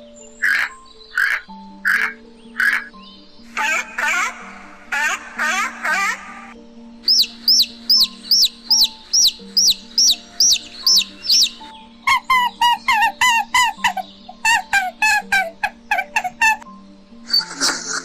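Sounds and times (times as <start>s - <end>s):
high bird chirps: 0.0s - 17.7s
soft background music: 0.0s - 18.0s
bird squawking calls: 0.4s - 16.7s.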